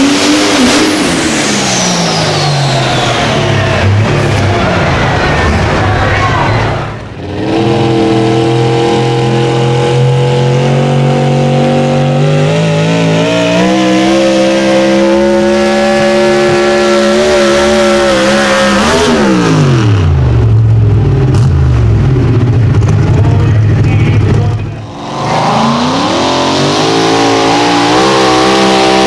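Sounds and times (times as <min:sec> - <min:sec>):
tractor engine running hard: 0:00.0 - 0:29.0.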